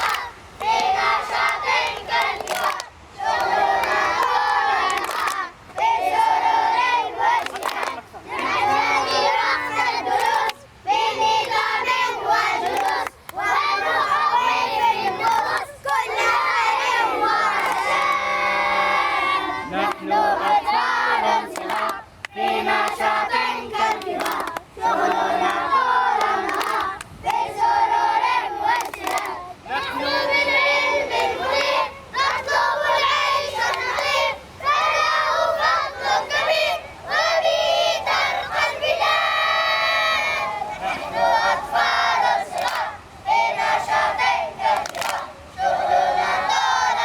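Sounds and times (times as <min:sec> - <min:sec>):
children chanting together: 0:00.0 - 0:47.0.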